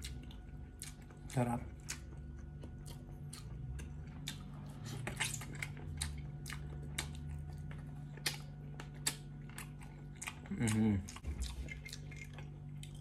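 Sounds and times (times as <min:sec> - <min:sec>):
steady low hum: 0:00.0 - 0:13.0
wet chewing and lip-smacking: 0:00.0 - 0:13.0.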